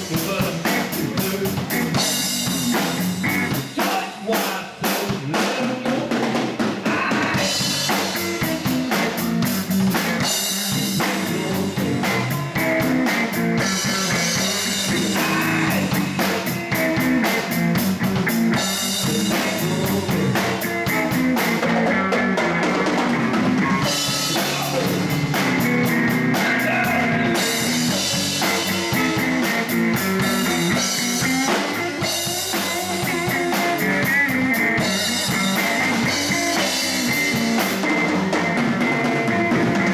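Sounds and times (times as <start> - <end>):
electric bass: 0.0 - 3.9, 6.8 - 39.9
drum kit steady beat: 0.0 - 39.9
electric guitar: 0.0 - 39.9.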